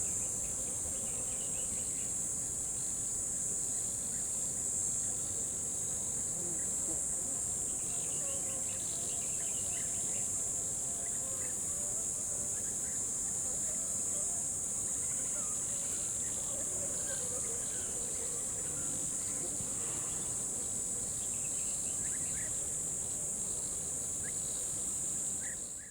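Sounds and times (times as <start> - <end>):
crickets chirping: 0.0 - 25.9
faint short insect calls: 0.0 - 25.9.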